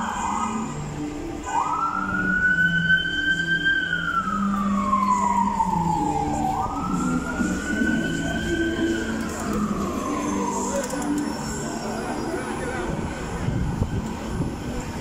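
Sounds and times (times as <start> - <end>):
emergency vehicle siren wailing: 0.0 - 14.0
low hum of street traffic: 0.0 - 15.0.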